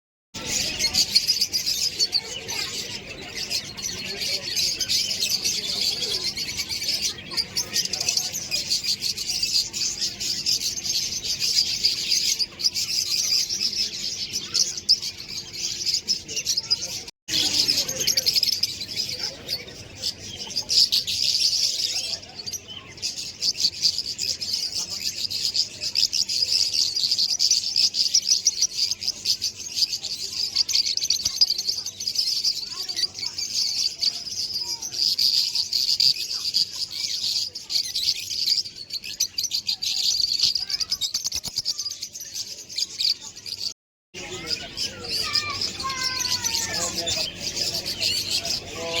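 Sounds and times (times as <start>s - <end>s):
small birds chirping: 0.4s - 49.0s.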